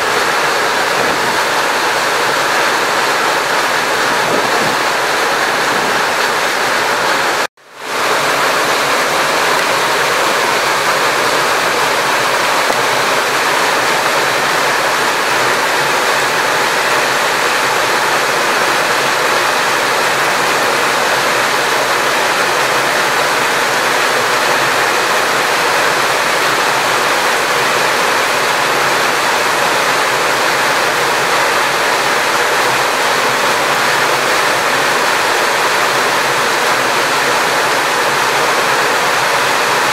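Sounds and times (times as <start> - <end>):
loud water noise: 0.0 - 39.9.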